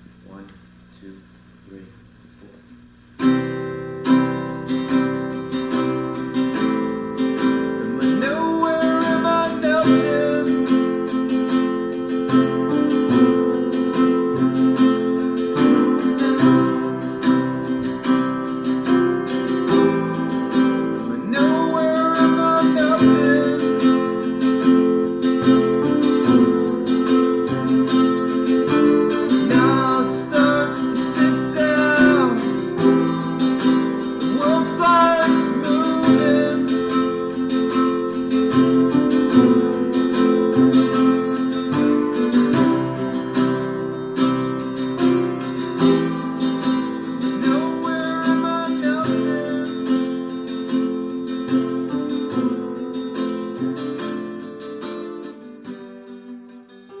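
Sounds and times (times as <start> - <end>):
guitar chords: 0.0 - 57.0.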